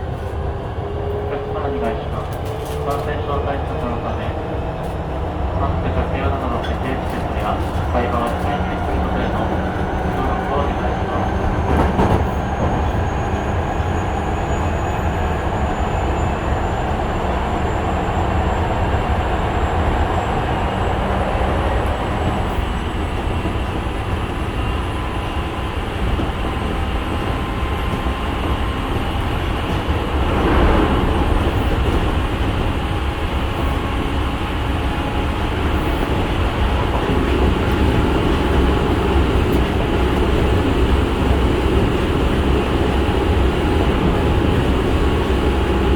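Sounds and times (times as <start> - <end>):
train wheels rumbling: 0.0 - 45.9.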